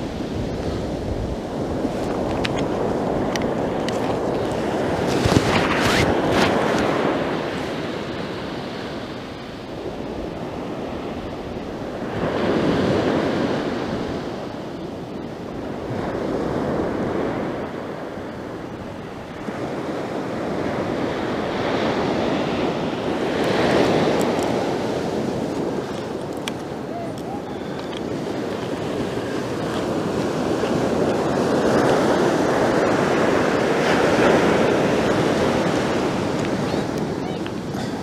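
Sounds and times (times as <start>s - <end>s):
sea waves breaking on beach: 0.0s - 38.0s.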